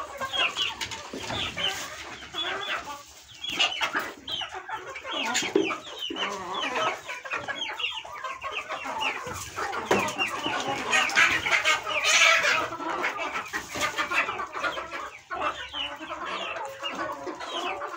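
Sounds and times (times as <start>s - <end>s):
chickens clucking: 0.0s - 17.9s.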